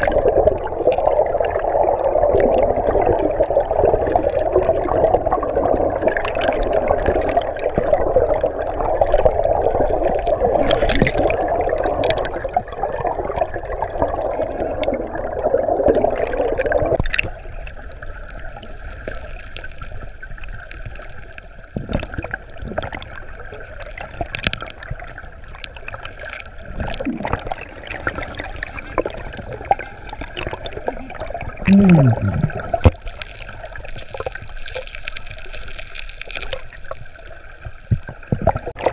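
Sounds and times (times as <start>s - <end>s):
river current underwater: 0.0s - 38.9s.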